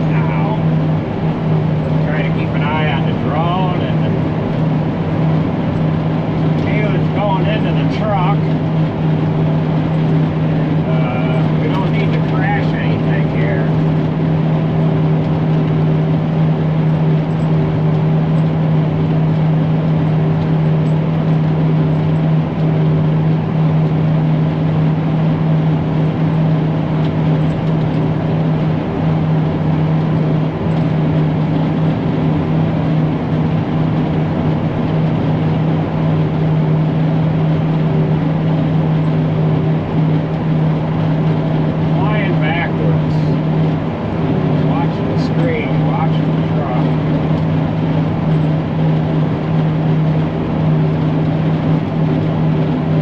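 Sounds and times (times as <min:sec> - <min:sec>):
farm machinery engine humming: 0:00.0 - 0:53.0.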